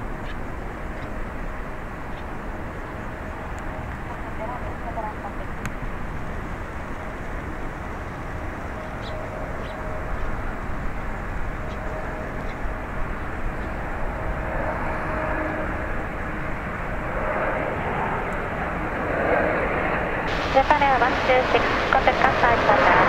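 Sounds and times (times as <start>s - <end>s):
faint steady whine: 0.0s - 23.0s
jet engine roar: 0.0s - 23.0s.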